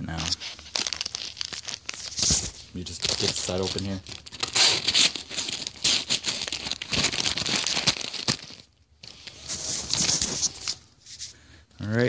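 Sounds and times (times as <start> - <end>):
paper package tearing and crinkling: 0.1 - 10.8.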